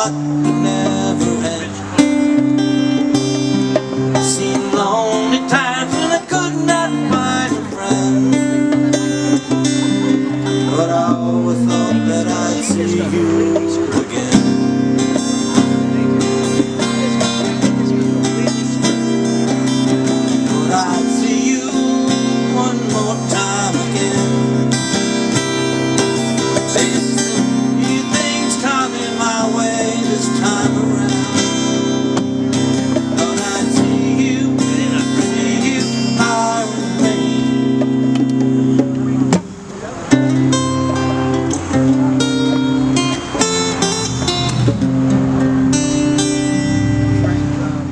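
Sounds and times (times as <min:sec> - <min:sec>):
acoustic guitar strumming: 0:00.0 - 0:47.9
held bass notes: 0:00.0 - 0:47.9.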